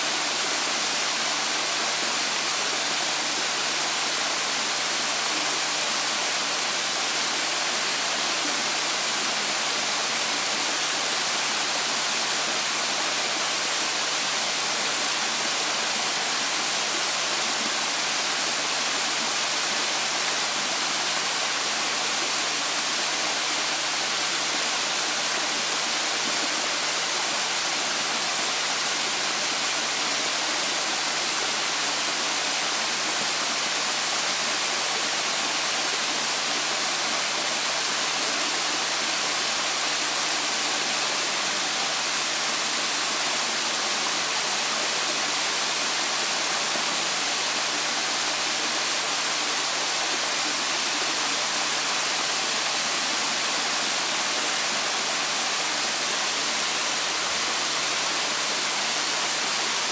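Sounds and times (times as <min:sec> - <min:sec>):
waterfall pouring and splashing: 0:00.0 - 0:59.9.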